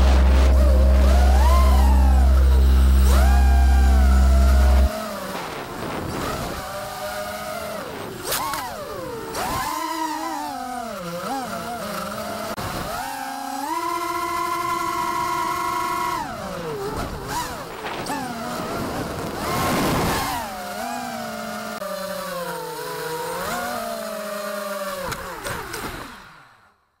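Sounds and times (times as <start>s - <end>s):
drone motors whining: 0.0s - 26.6s.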